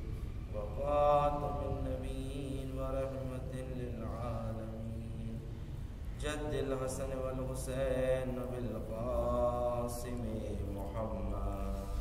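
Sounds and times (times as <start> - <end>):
low steady hum: 0.0 - 12.0
man chanting melodically: 0.5 - 12.0.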